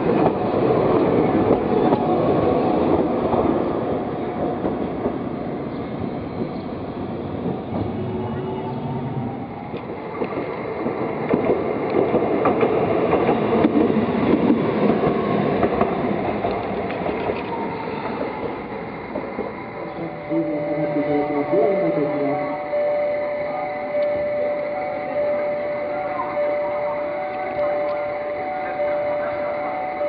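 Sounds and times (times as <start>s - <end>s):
streetcar wheels rumbling on rail: 0.0s - 30.0s.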